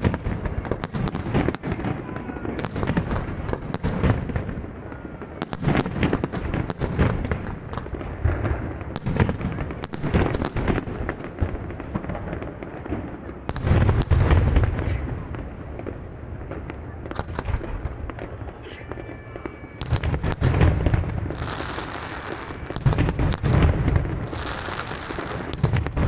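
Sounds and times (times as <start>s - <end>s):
deep fireworks booms: 0.0s - 26.0s
fireworks bursts and crackling bangs: 0.0s - 26.0s.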